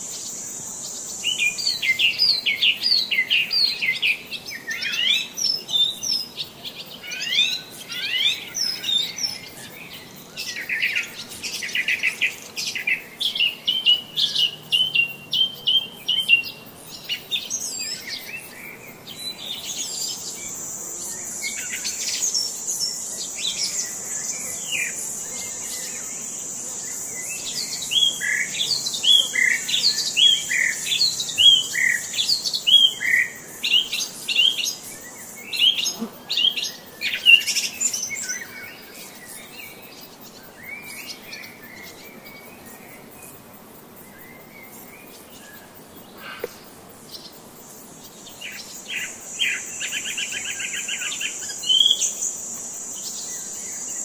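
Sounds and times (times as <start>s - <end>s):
songbirds chirping and singing: 0.9s - 54.0s.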